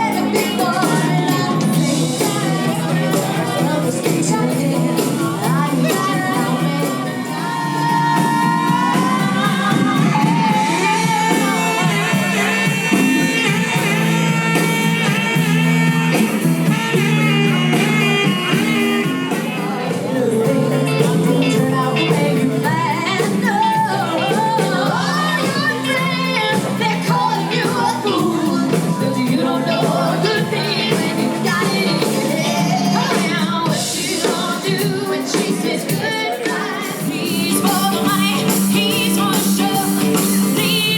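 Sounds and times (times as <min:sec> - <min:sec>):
person singing: 0:00.0 - 0:40.9
soft rock band playing: 0:00.0 - 0:40.9.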